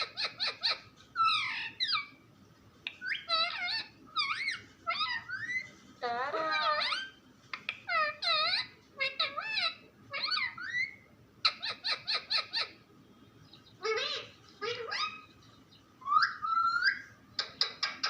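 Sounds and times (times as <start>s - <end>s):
parrot calling and chattering: 0.0s - 2.2s, 2.8s - 12.8s, 13.7s - 15.4s, 16.0s - 18.0s.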